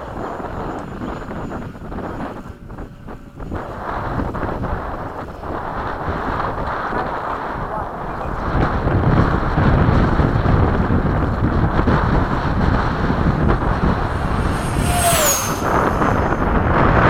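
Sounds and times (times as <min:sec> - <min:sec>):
model jet fan whine passing: 0:00.0 - 0:17.0
wind buffeting microphone: 0:00.0 - 0:17.0.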